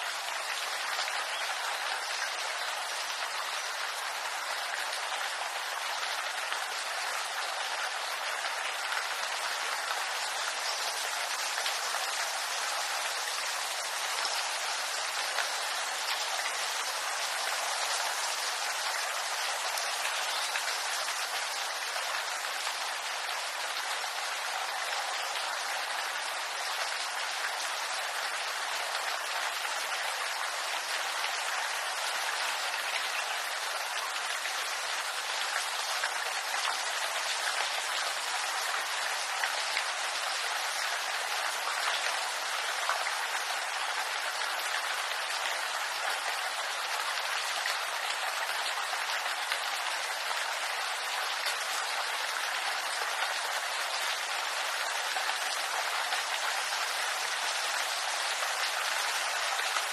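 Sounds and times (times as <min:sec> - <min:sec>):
rain falling on bamboo leaves: 0:00.0 - 0:59.9.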